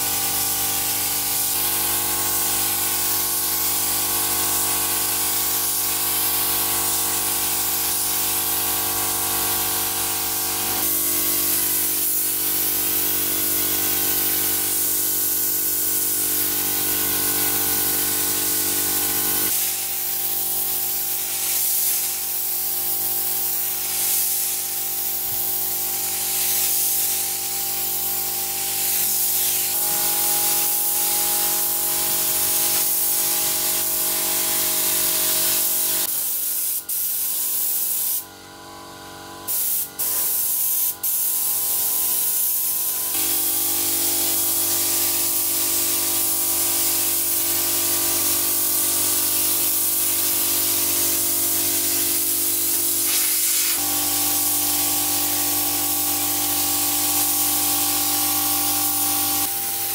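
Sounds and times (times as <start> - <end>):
spray gun hissing: 0.0 - 38.2, 39.5 - 59.9.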